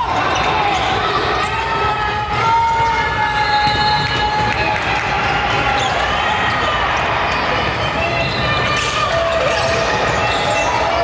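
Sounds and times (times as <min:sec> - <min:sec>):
background hubbub: 0:00.0 - 0:11.0
basketball bouncing on court: 0:00.3 - 0:10.7.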